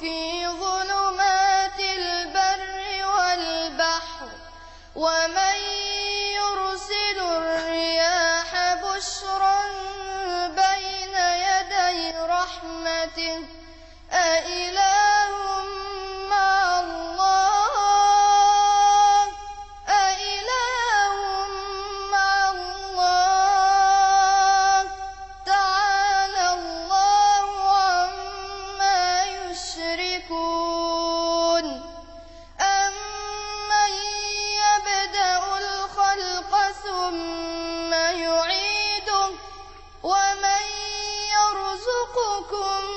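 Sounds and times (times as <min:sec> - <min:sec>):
young person chanting melodically: 0:00.0 - 0:42.9.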